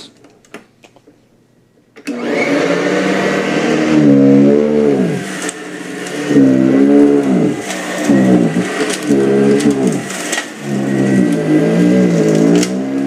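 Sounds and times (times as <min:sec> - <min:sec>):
upright vacuum cleaner motor whining: 0:02.0 - 0:13.0.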